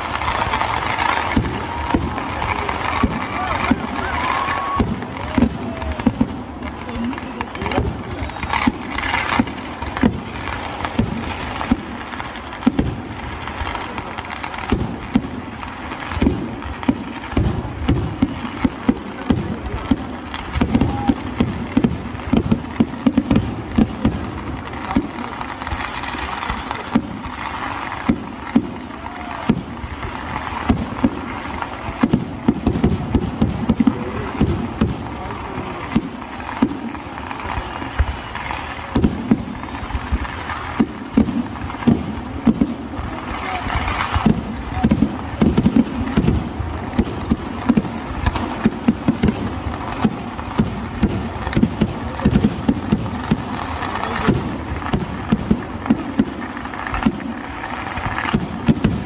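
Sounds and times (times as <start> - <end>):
fireworks banging: 0.0 - 59.0.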